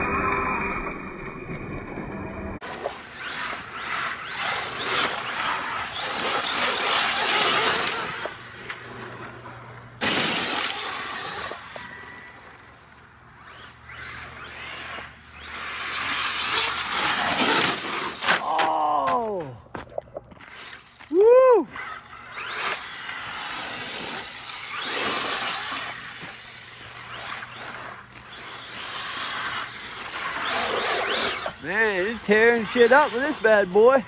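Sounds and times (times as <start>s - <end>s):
rc truck electric motor whining: 2.6s - 18.6s, 20.4s - 34.0s
tyres tearing at ground: 2.6s - 34.0s.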